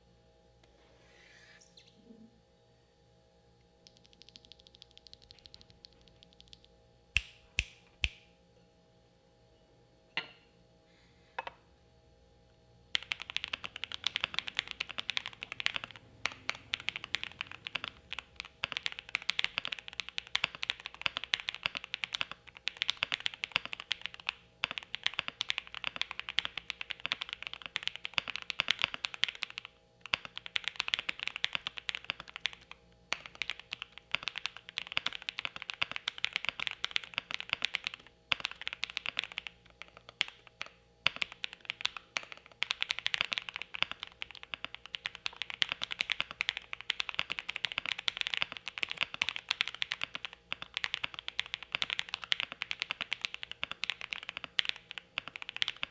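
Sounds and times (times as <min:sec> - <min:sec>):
typing on mechanical keyboard: 0:03.8 - 0:06.7, 0:12.9 - 0:55.9.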